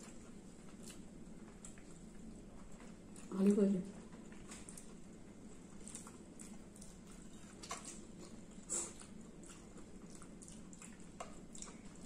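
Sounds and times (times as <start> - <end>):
chewing and mouth noises: 0.0 - 12.0.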